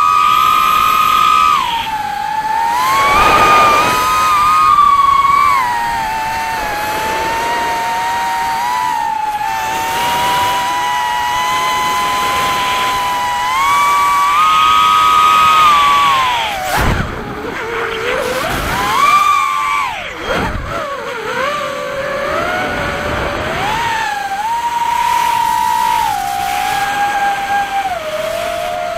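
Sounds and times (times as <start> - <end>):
quadcopter motors whining: 0.0 - 28.9.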